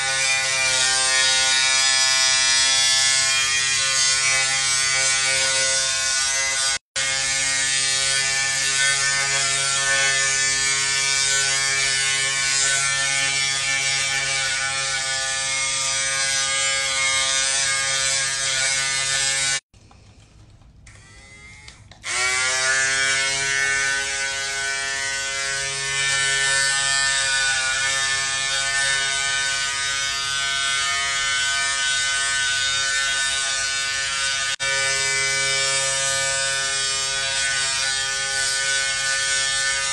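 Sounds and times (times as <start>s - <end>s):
hair clippers buzzing: 0.0s - 19.7s, 20.9s - 39.9s.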